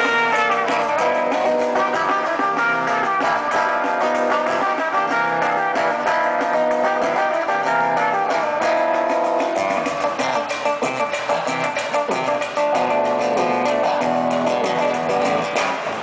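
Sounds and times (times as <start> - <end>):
samba-rock music: 0.0 - 16.0
strummed guitar: 0.0 - 16.0.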